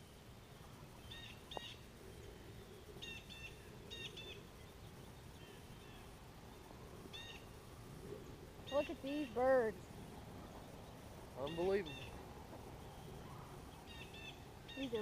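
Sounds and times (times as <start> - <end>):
faint background hiss: 0.0 - 15.0
small bird chirping: 0.4 - 7.6, 8.2 - 15.0.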